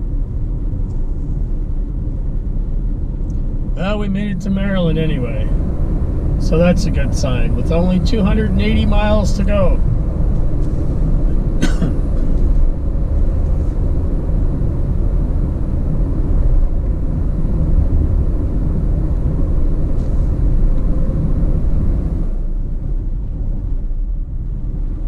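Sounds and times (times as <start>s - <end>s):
vehicle road and engine rumble: 0.0s - 25.0s.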